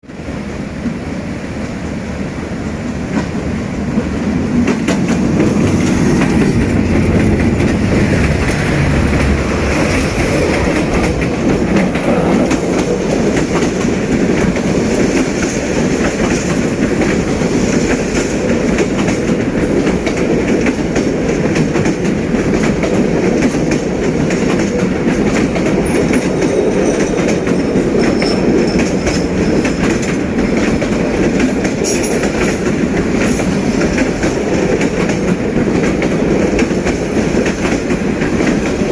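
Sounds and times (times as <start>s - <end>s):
train rumbling on rails: 0.0s - 38.9s
wheels clacking over rail joints: 4.0s - 38.9s.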